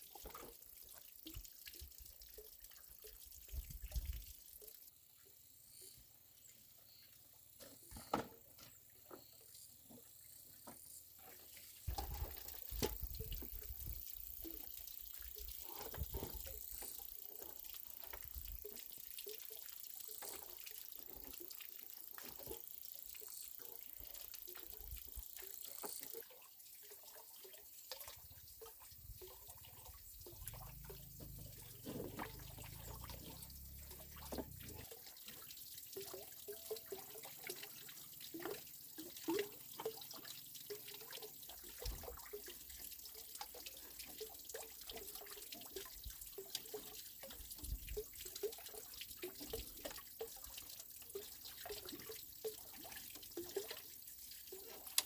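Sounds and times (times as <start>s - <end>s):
small knocks and splashes: 0.0s - 4.9s, 7.1s - 55.0s
water running and dripping: 0.0s - 5.0s, 7.2s - 55.0s.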